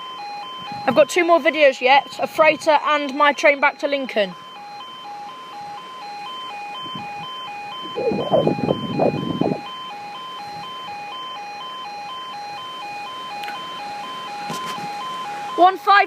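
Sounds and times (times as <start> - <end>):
two-tone electronic warning alarm: 0.0 - 16.0.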